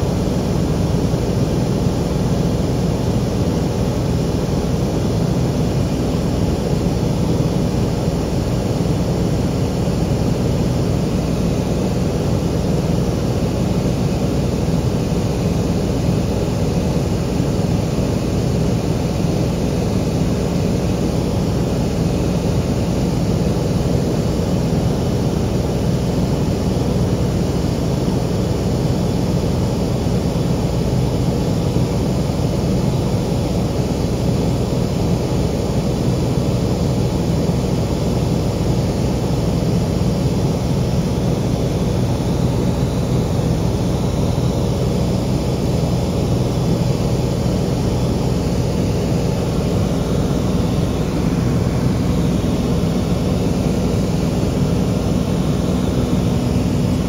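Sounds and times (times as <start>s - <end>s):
aircraft engine hum in cabin: 0.0s - 57.0s.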